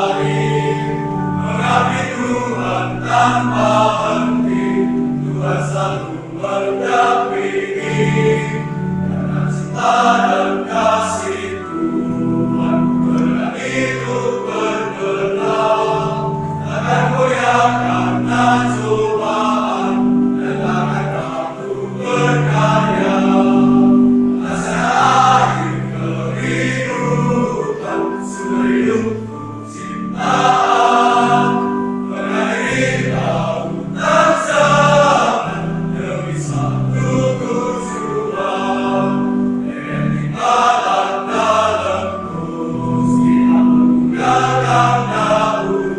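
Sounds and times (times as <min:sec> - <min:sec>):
male choir singing a hymn: 0:00.0 - 0:45.9.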